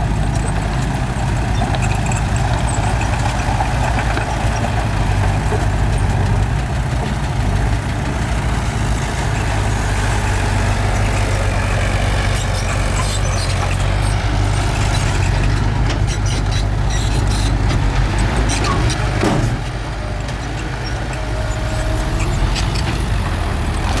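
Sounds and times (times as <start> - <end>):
heavy diesel engine rumbling: 0.0 - 24.0
clanks and knocks: 0.3 - 24.0.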